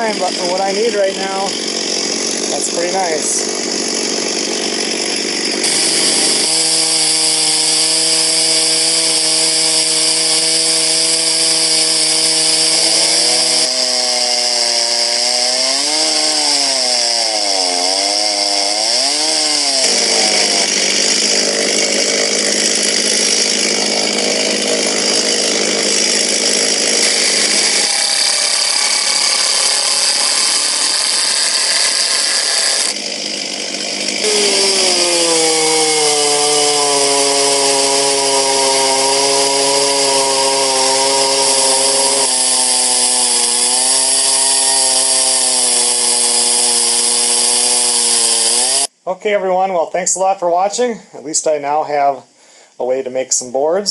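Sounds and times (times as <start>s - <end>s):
chainsaw cutting through log: 0.0s - 49.0s.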